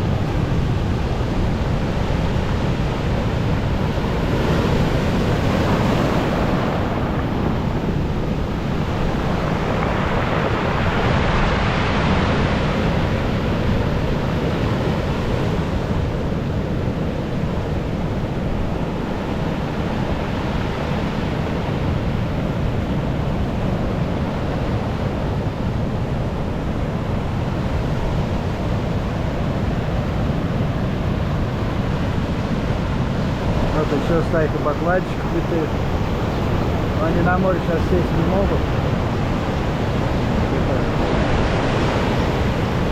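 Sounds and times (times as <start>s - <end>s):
storm waves breaking on shore: 0.0s - 42.9s
wind rumbling on microphone: 0.0s - 42.9s.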